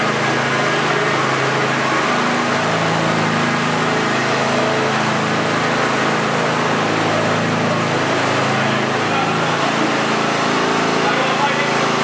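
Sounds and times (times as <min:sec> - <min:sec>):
ride-on lawn mower engine: 0:00.0 - 0:12.0.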